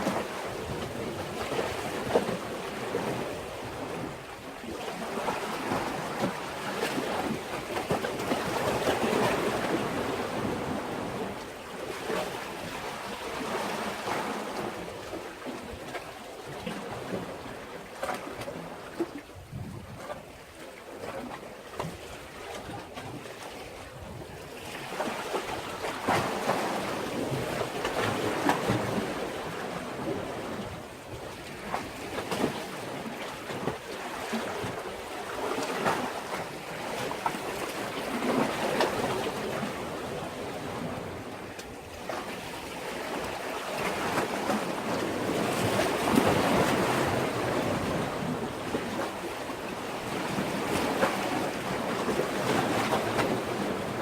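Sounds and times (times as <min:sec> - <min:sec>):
sea waves washing against breakwater: 0:00.0 - 0:54.0.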